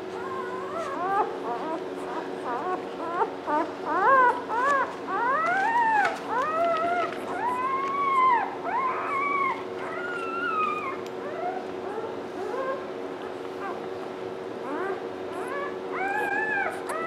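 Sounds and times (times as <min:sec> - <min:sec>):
puppies squealing: 0:00.1 - 0:17.0.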